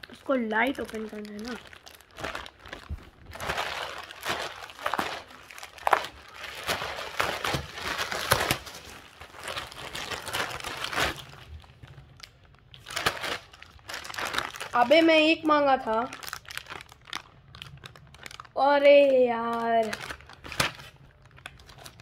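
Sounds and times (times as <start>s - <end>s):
plastic bag crinkling and tearing: 0.0s - 22.0s.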